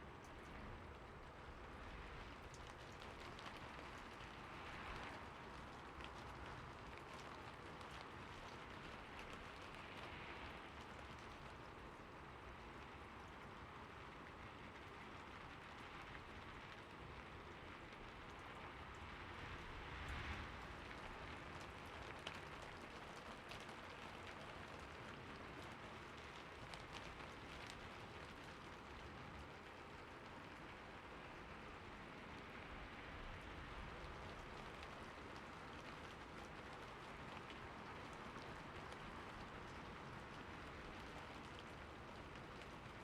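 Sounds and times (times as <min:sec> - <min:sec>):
raindrops ticking: 0:00.0 - 0:43.0
steady rain hiss: 0:00.0 - 0:43.0.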